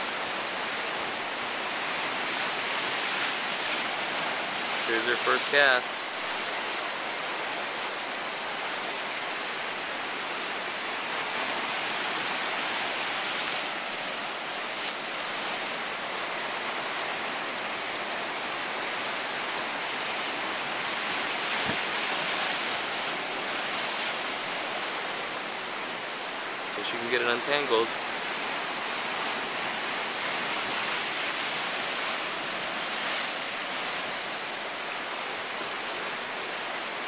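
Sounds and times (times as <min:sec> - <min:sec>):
ocean surf breaking on rocks: 0:00.0 - 0:37.0.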